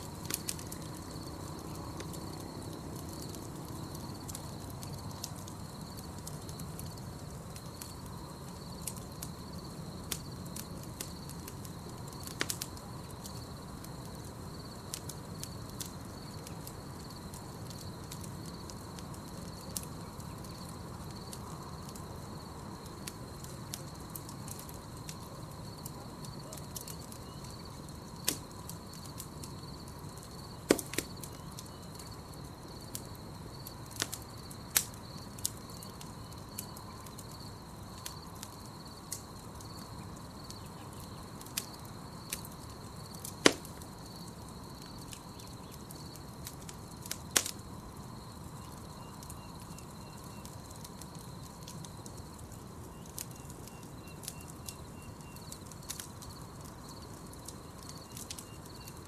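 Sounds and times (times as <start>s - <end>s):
campfire crackling and popping: 0.0s - 59.0s
fire hissing: 0.0s - 59.0s.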